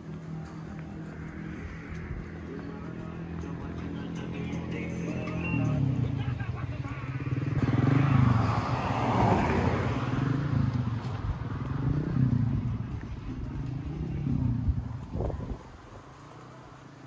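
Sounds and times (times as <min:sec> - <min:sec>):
continuous low rumble: 0:00.0 - 0:07.6, 0:10.2 - 0:17.0
vehicle passing by: 0:00.0 - 0:17.0.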